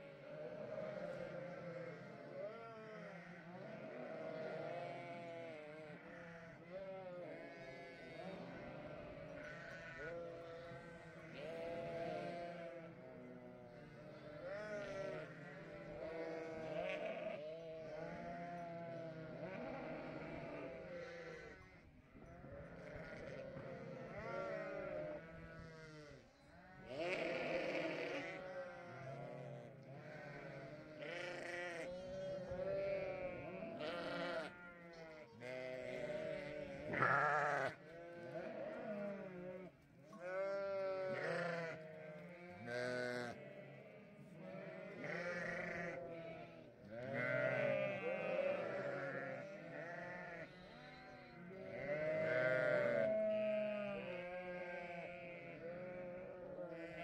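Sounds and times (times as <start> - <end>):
sheep and lambs bleating: 0.0 - 57.0.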